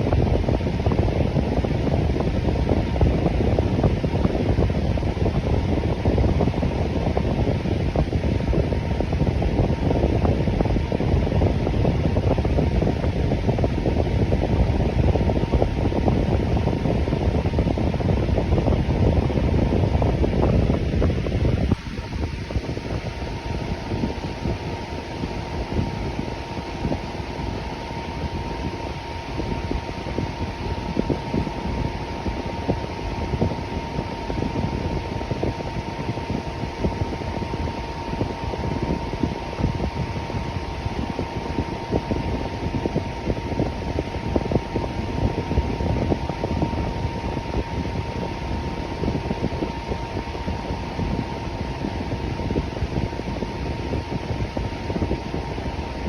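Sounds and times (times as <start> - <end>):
electric fan running: 0.0 - 56.0
thin constant hum: 0.0 - 56.0.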